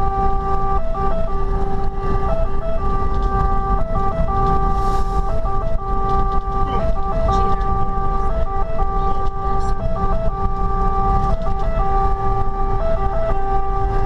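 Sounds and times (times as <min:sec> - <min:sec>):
truck engine running: 0:00.0 - 0:14.0
two-tone siren: 0:00.0 - 0:14.0.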